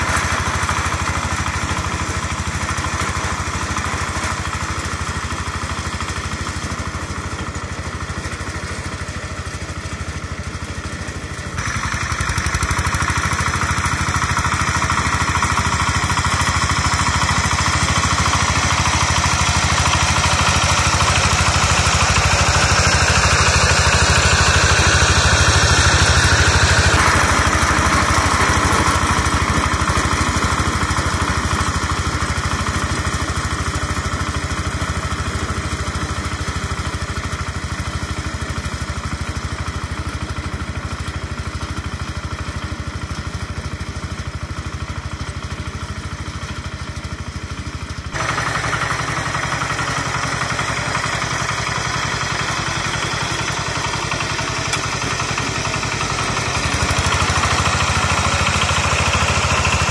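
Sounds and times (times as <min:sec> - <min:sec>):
diesel engine running: 0:00.0 - 0:59.9
rotary tiller in wet soil: 0:00.0 - 0:59.9.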